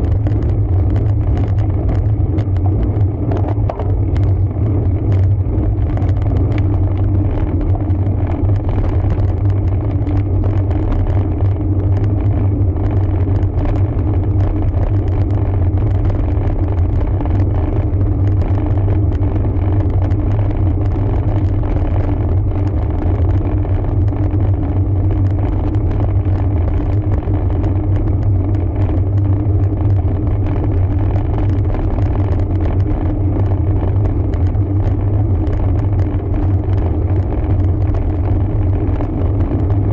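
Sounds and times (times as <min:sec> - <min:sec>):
road bike riding rumble: 0:00.0 - 0:39.9.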